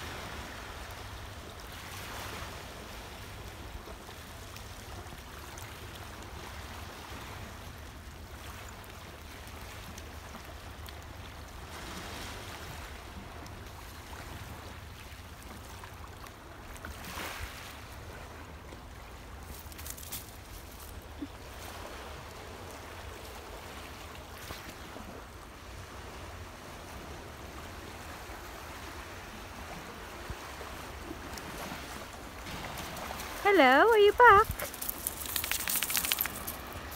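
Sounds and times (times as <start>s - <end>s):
small waves lapping on shingle: 0.0s - 36.9s.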